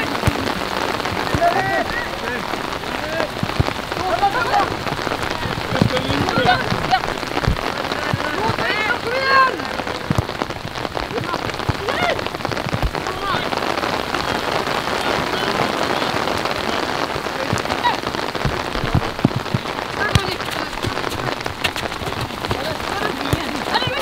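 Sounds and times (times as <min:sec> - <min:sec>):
distant shouts: 0:00.0 - 0:24.0
rain patter: 0:00.0 - 0:24.0.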